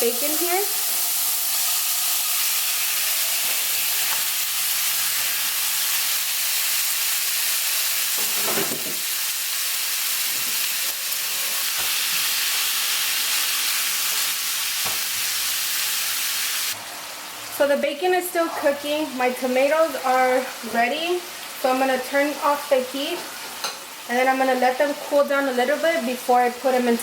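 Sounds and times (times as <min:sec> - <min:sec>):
bacon sizzling in a pan: 0:00.0 - 0:27.0.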